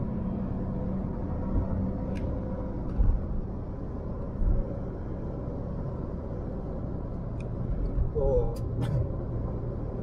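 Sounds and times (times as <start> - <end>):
engine rumble: 0.0 - 10.0
road and tyre noise: 0.0 - 10.0.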